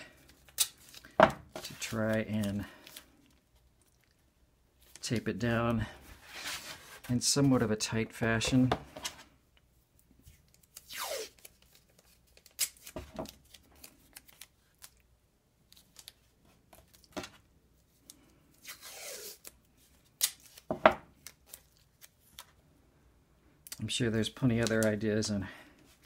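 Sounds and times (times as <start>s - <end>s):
clicks and rustles of tape: 0.1s - 5.4s, 8.5s - 22.6s, 23.6s - 25.2s.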